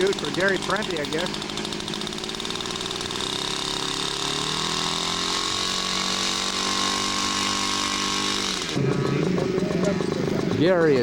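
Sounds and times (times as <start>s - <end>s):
model airplane engines running: 0.0s - 11.0s.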